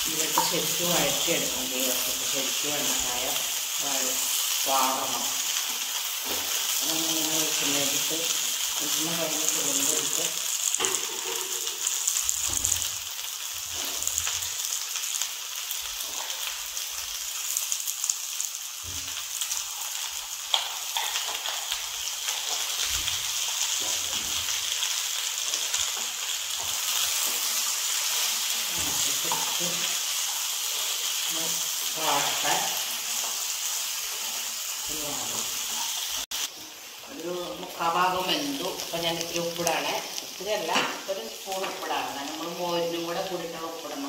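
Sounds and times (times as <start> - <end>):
okra sizzling in frying oil: 0.0 - 44.0.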